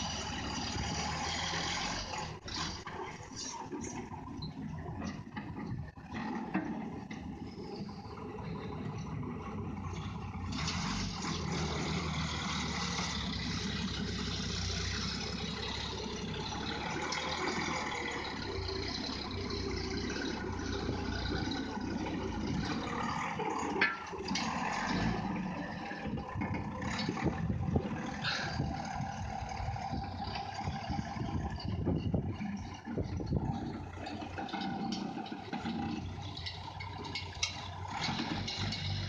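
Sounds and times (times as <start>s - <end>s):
loader digging in dirt: 0.0s - 39.0s
tractor diesel engine under load: 0.0s - 39.0s.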